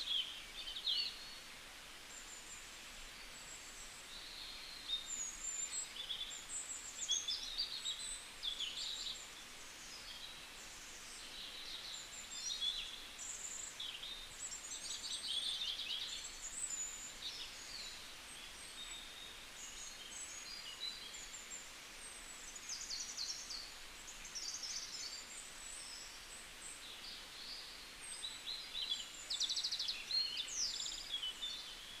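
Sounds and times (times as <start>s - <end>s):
faint background hiss: 0.0s - 32.0s.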